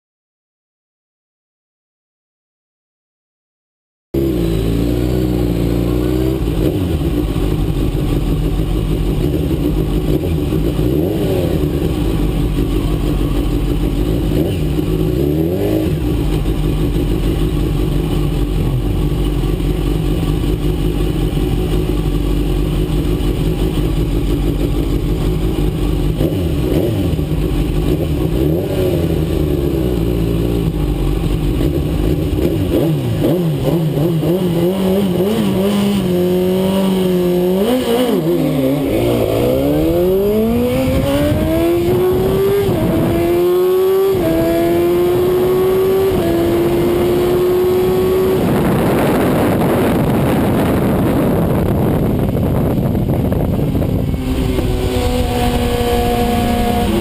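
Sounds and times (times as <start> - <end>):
motorcycle engine idling and revving: 4.2 - 57.0.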